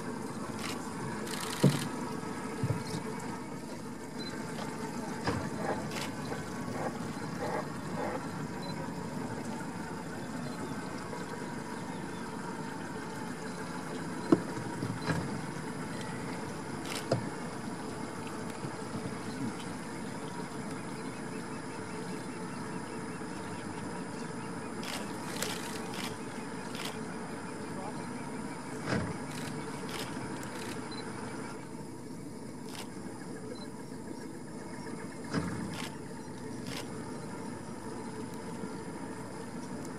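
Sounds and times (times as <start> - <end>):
idling boat motor hum: 0.0 - 39.9
water sounds: 0.0 - 39.9.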